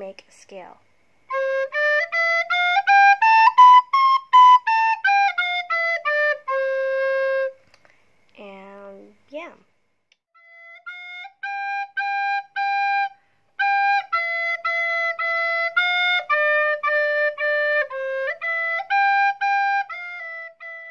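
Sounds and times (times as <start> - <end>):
recorder playing a melody: 1.3 - 7.6, 10.4 - 20.9.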